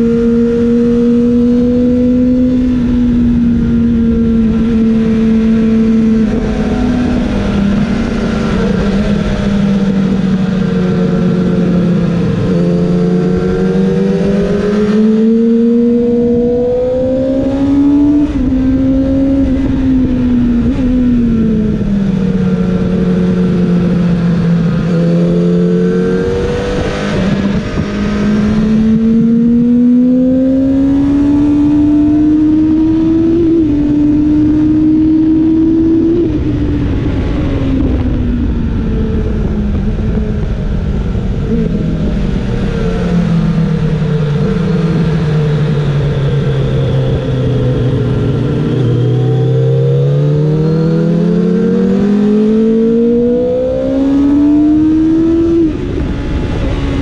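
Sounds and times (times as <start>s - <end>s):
heavy wind noise: 0.0s - 57.0s
motorcycle engine revving high: 0.0s - 57.0s.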